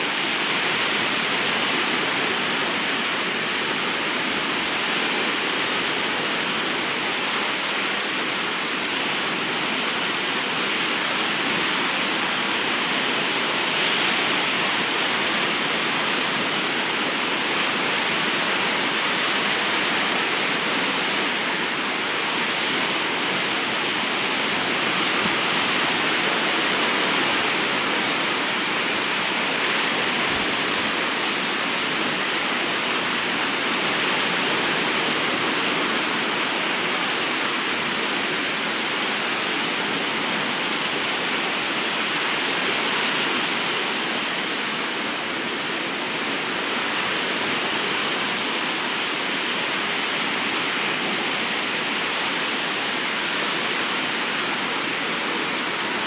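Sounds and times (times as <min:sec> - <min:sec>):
waves breaking on sandy beach: 0:00.0 - 0:56.0.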